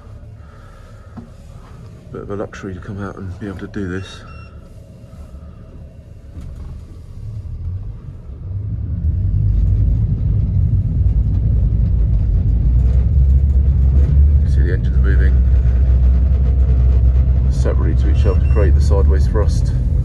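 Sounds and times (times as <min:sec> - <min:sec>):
outboard engines rumbling: 0:00.0 - 0:20.0.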